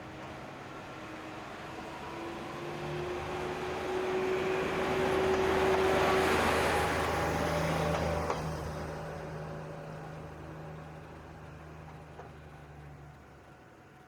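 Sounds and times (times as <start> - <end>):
diesel railcar passing: 0.0 - 14.0.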